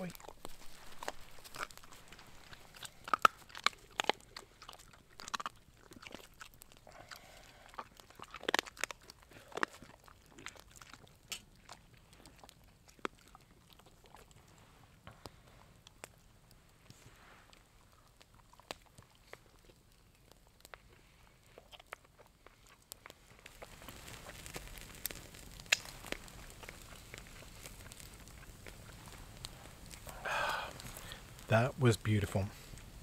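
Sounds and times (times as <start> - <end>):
dog chewing and crunching food: 0.0 - 31.5.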